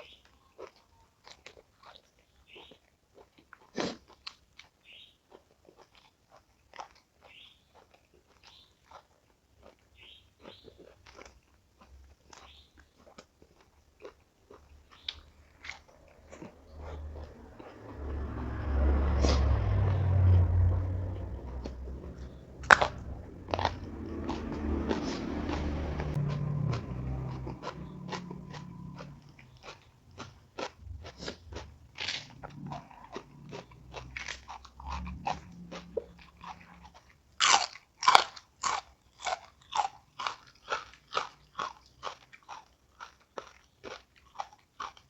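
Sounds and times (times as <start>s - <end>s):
crisp food crunching and chewing: 0.0s - 17.9s, 19.6s - 45.0s.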